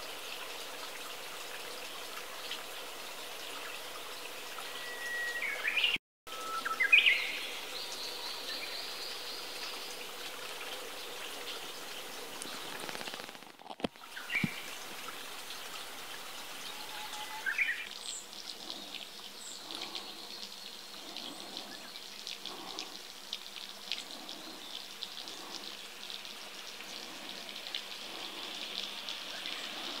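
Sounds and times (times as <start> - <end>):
stream trickling: 0.0 - 30.0.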